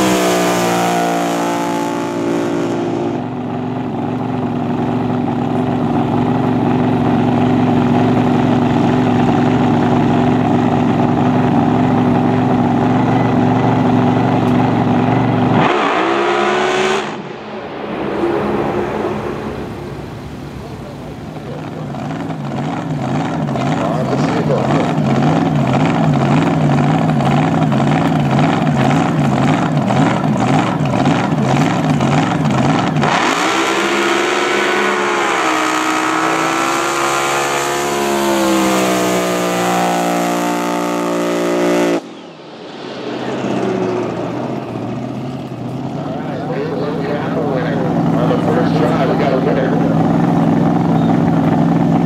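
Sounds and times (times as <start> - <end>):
distant engine note: 0.0 - 52.0
jet boat engine idling and revving: 0.0 - 52.0.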